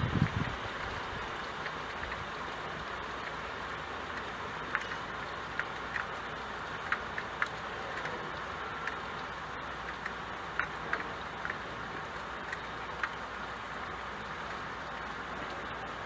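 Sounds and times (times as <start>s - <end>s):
sharp drip ticks: 0.0s - 16.0s
steady rain falling: 0.0s - 16.0s.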